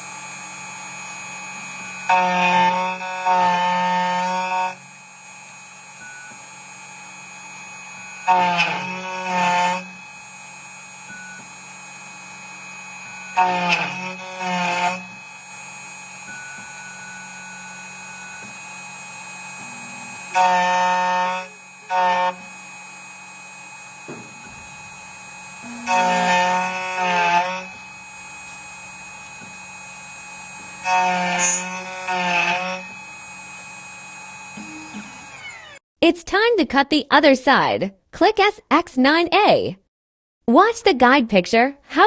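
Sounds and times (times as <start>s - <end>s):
key cutting motor whine: 0.0s - 35.8s
steady machine hum: 0.0s - 35.8s.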